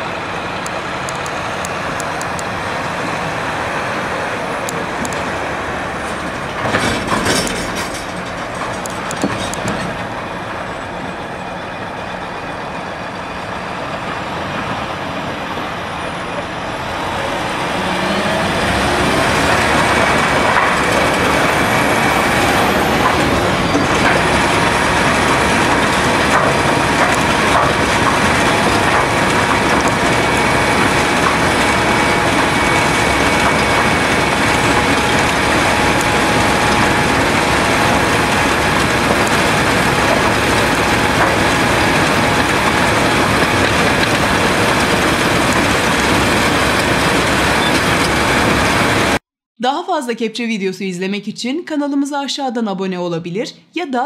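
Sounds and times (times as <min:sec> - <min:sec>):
dump truck idling: 0:00.0 - 0:49.2
milling machine grinding road: 0:00.0 - 0:49.2.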